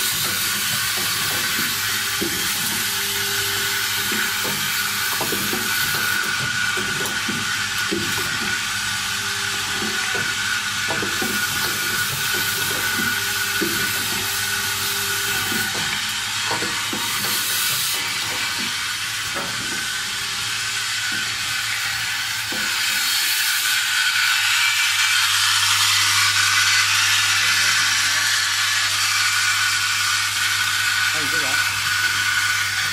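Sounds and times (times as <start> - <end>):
machine hiss and hum: 0.0 - 32.9.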